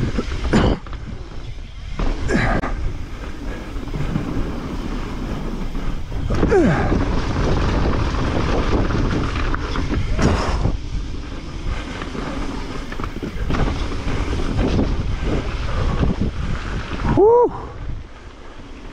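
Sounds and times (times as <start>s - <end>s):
bike knocks and rattles: 0.0s - 16.9s
bike tyre rumble: 0.0s - 18.9s
wind buffeting microphone: 0.0s - 18.9s.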